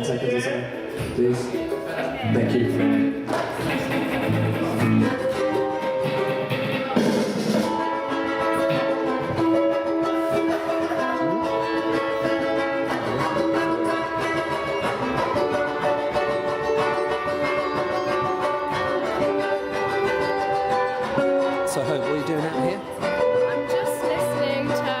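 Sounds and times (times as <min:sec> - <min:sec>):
small band playing through pa: 0:00.0 - 0:25.0
ukulele chords: 0:00.0 - 0:25.0
guitar chords: 0:00.7 - 0:25.0.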